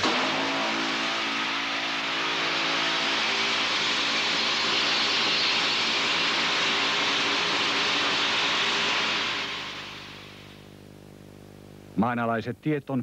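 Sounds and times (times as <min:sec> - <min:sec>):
heavy mining machine running: 0:00.0 - 0:10.7.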